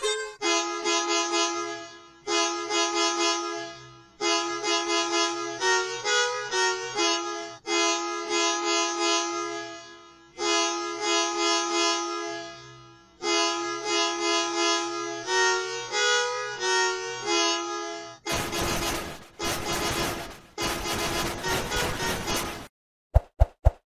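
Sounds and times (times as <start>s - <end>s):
musical bus horn playing a tune: 0.0s - 18.4s, 20.6s - 22.6s.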